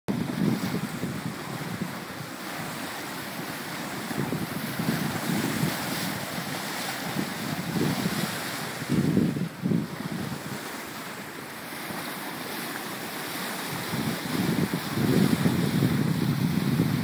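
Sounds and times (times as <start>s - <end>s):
wind buffeting microphone: 0.1s - 10.8s, 11.8s - 17.0s
sea water rushing along hull: 0.1s - 17.0s.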